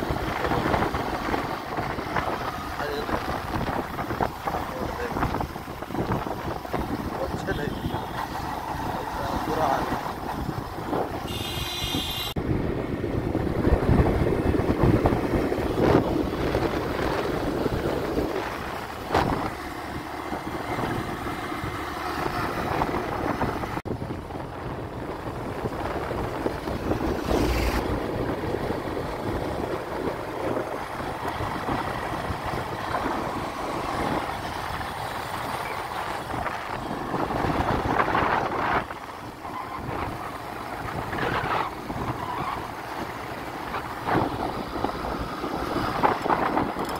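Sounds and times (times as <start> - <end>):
engine and tyre rumble: 0.0 - 46.9
wind on microphone: 0.0 - 46.9.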